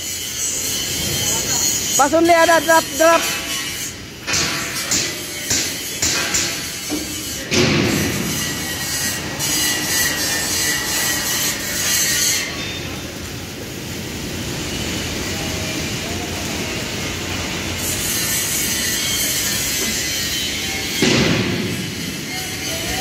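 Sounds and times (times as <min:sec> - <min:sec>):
metal workshop noise: 0:00.0 - 0:23.0
welding arc crackling hiss: 0:00.0 - 0:23.0.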